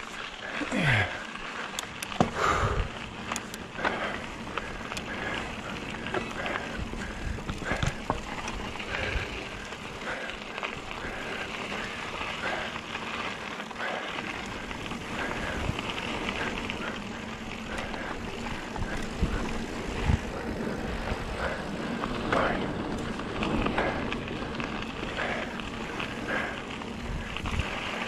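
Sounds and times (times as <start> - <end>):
bike rattling over bumps: 0.0 - 28.0
tyres crunching on gravel: 0.0 - 28.0
wind buffeting microphone: 2.3 - 12.6, 14.3 - 28.0.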